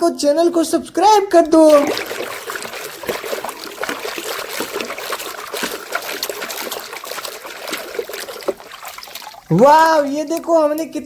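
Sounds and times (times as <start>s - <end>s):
water splashing and trickling: 1.4s - 11.0s.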